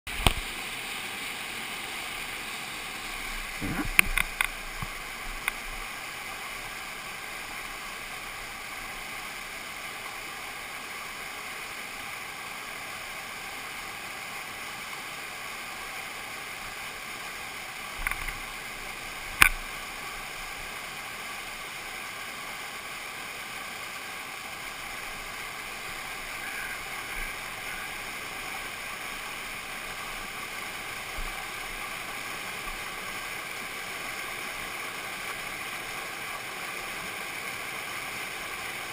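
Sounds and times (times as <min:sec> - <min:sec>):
whitewater rapid rushing: 0:00.1 - 0:38.9.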